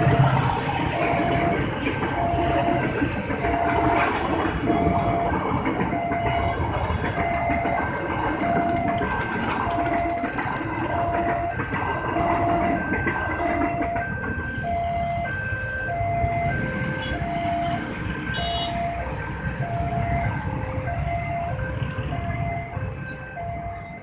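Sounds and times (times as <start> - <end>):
level crossing two-tone alarm: 0.0 - 24.0
traffic rumble: 0.0 - 24.0.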